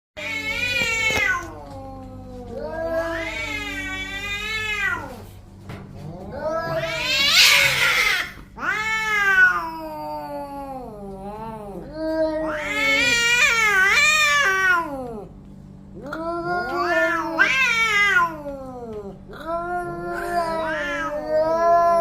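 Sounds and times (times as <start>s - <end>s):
cats yowling: 0.2s - 5.4s, 6.0s - 15.3s, 16.0s - 22.0s.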